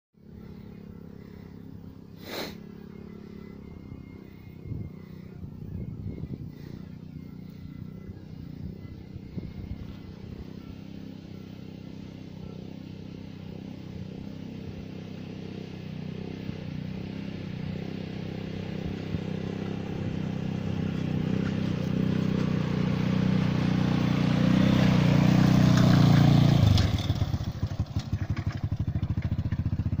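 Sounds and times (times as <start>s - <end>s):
quad bike engine: 0.2s - 30.0s.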